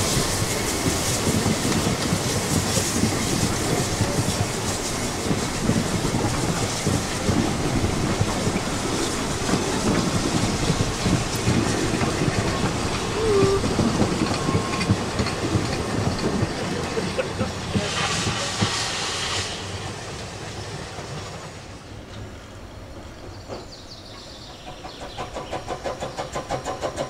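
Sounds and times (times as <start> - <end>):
steam train wagons clattering: 0.0 - 22.4, 23.2 - 27.0.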